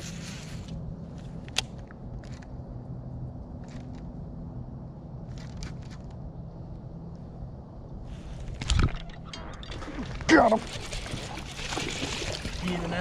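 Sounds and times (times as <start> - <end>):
boat low mechanical hum: 0.0 - 13.0.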